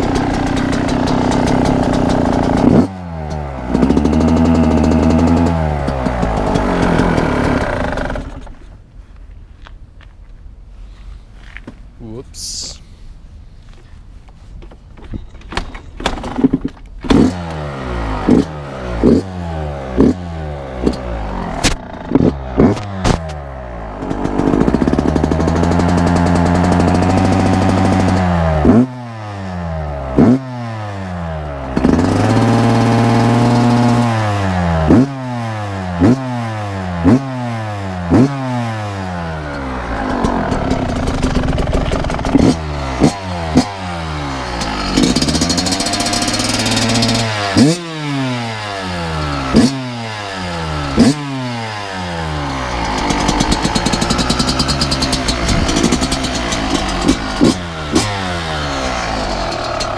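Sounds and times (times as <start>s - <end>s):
two-stroke engine revving: 0.0s - 8.6s, 17.0s - 59.9s.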